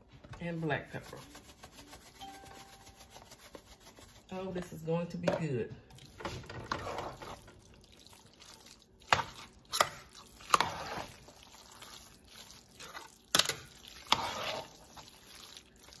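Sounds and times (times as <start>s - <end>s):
spoon stirring thick rice: 0.2s - 4.7s, 5.9s - 16.0s.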